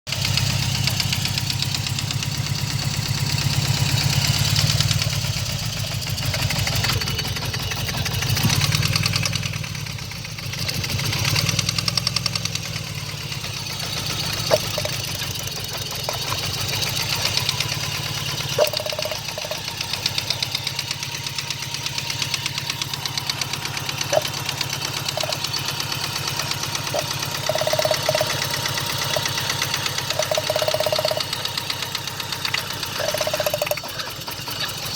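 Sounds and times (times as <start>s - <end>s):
engine knocking: 0.1s - 34.9s.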